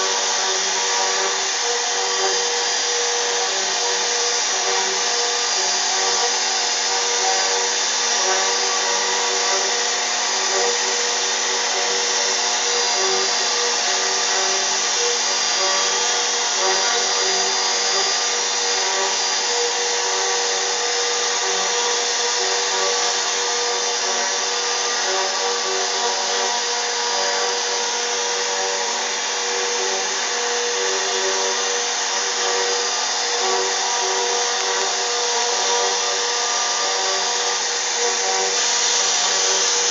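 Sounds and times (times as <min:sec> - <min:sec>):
router spindle whining cutting wood: 0:00.0 - 0:39.9.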